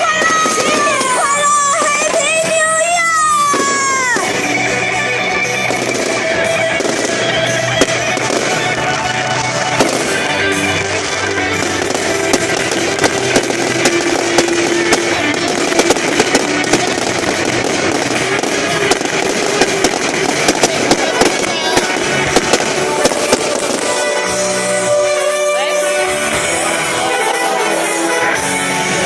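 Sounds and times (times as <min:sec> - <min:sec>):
fireworks popping and crackling: 0:00.0 - 0:29.0
music: 0:00.0 - 0:29.0.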